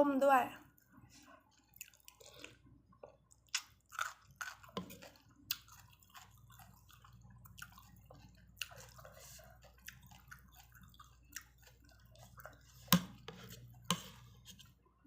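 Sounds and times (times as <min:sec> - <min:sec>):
wet chewing sounds: 0:00.7 - 0:14.4.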